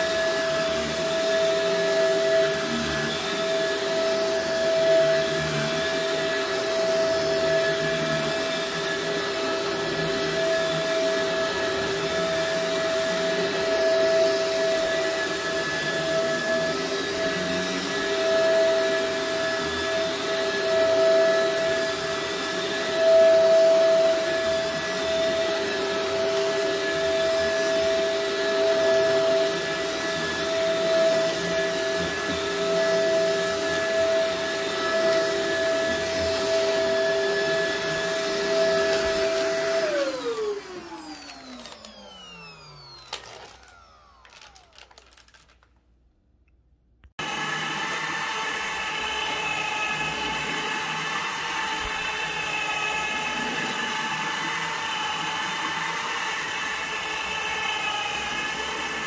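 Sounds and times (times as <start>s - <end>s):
vacuum cleaner motor whine: 0.0s - 45.6s, 47.2s - 59.0s.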